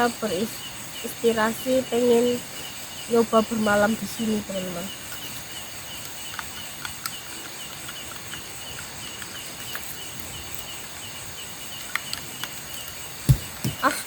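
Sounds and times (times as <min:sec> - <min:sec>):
insect chirping: 0:00.0 - 0:14.0
insects humming: 0:00.0 - 0:14.0.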